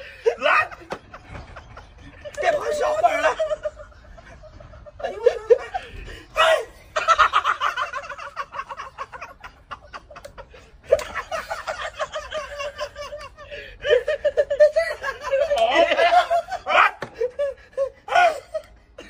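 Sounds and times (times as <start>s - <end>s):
men laughing hard: 0.0s - 19.0s.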